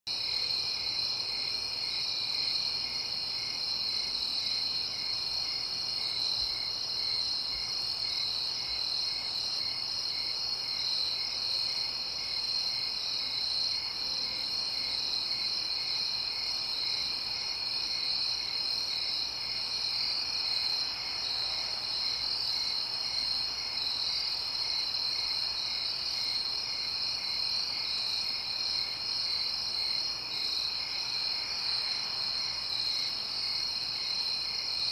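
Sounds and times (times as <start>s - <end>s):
soft regular cricket chirp: 0.1s - 34.9s.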